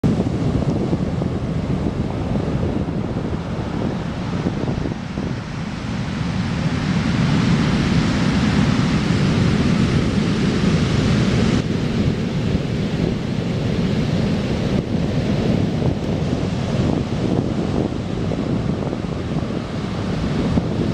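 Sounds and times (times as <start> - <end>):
heavy surf pounding shore: 0.0 - 20.9
wind buffeting microphone: 0.0 - 20.9.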